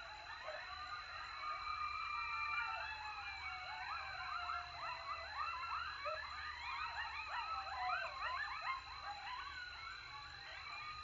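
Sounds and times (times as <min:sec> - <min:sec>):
coyotes yipping and howling: 0:00.0 - 0:11.0.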